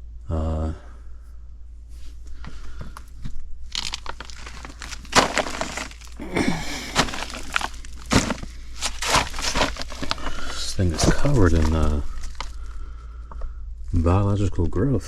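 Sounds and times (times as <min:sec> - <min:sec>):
crinkling and rustling materials: 0:01.8 - 0:14.8.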